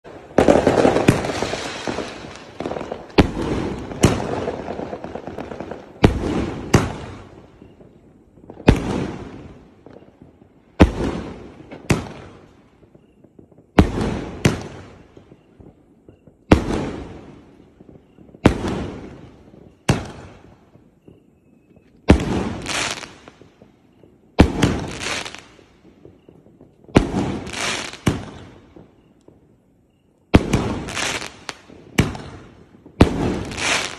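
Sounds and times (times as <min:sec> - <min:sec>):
firework bangs: 0:00.0 - 0:33.9.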